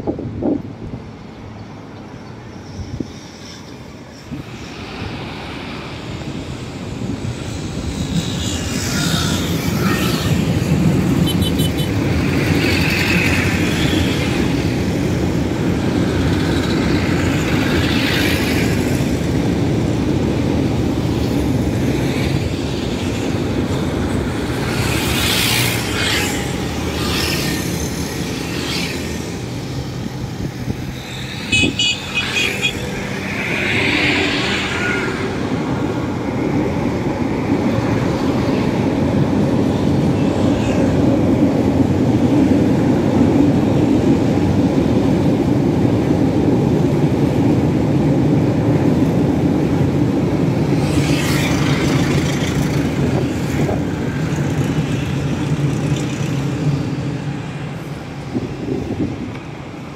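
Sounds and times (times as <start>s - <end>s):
city traffic noise: 0.0s - 59.9s
light-rail train rumbling: 0.0s - 59.9s.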